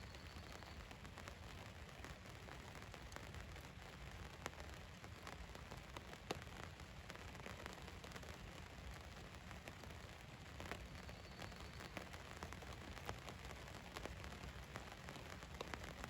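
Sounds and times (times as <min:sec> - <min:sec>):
rain pattering on van roof: 0:00.0 - 0:16.0.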